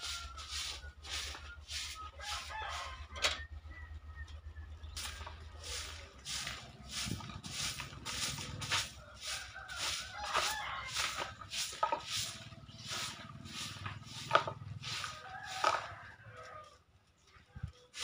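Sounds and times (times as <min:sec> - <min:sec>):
broom sweeping bare ground: 0:00.0 - 0:03.2, 0:04.8 - 0:16.8, 0:17.7 - 0:18.0
chickens clucking: 0:00.0 - 0:18.0.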